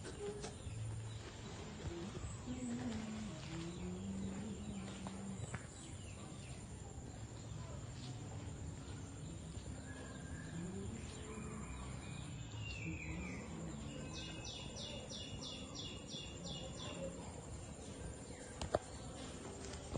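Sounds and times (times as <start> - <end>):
outdoor background noise: 0.0 - 19.9.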